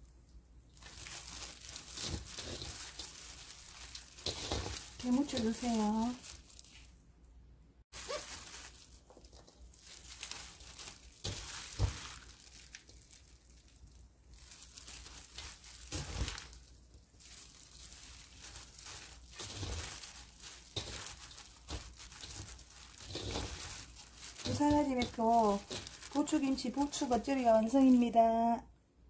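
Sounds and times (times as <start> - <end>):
hands mixing chives rustling: 0.0 - 7.1, 7.9 - 28.6.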